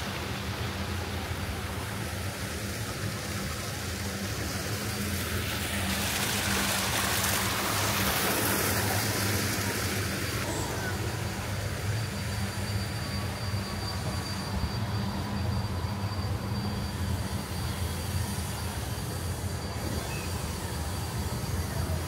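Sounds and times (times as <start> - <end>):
rushing noise: 0.0 - 22.0.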